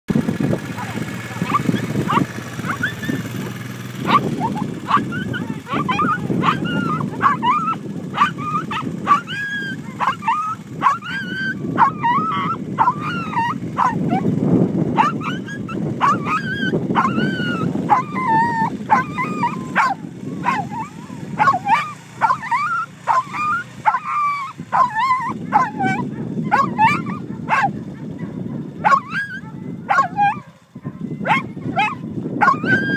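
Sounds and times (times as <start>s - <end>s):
dog whining and yipping: 0.8s - 14.3s, 15.0s - 32.9s.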